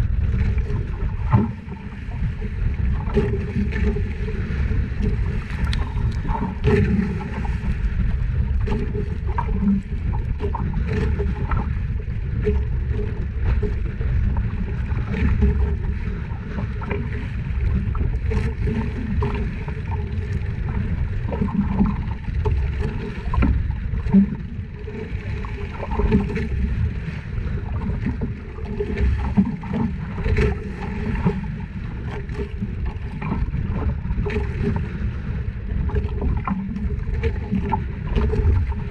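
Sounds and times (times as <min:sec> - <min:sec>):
wind: 0:00.0 - 0:37.0
boat engine hum: 0:00.0 - 0:38.9
water noise: 0:00.0 - 0:38.9.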